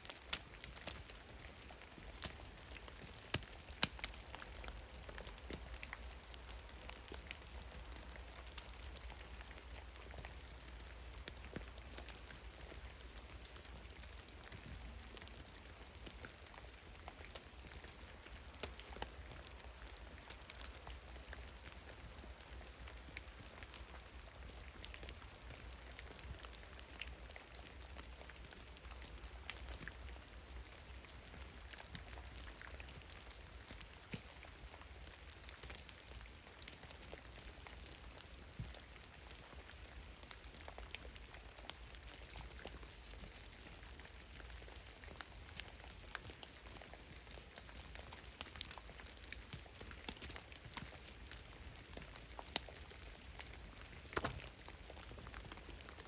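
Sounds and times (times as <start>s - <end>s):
faint steady hiss: 0.0s - 56.0s
meltwater dripping: 0.0s - 56.0s.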